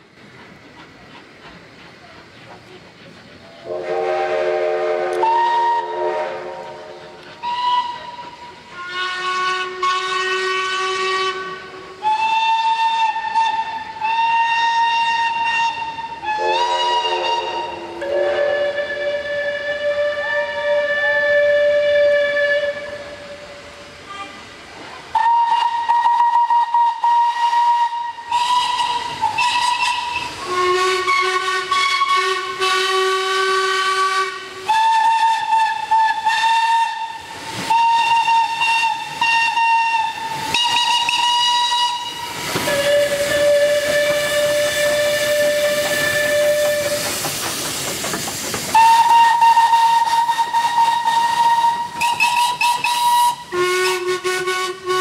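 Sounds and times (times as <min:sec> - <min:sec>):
hissing steam: 0:00.0 - 0:55.0
steam locomotive whistles: 0:03.4 - 0:55.0.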